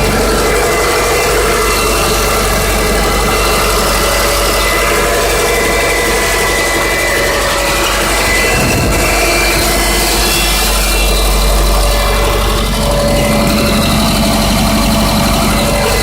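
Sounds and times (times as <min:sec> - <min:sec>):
engine running with rapid knock: 0:00.0 - 0:16.0.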